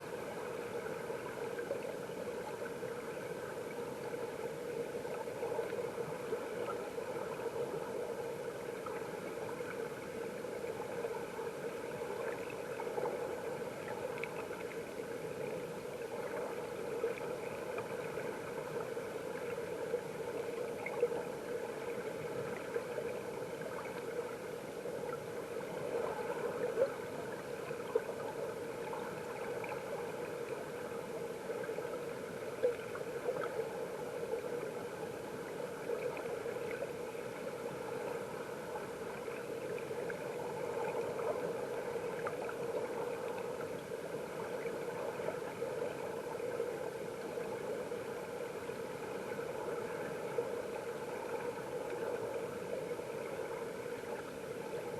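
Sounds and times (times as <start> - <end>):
faint ticks: 0.0 - 54.4
muffled underwater water rush: 0.0 - 54.9.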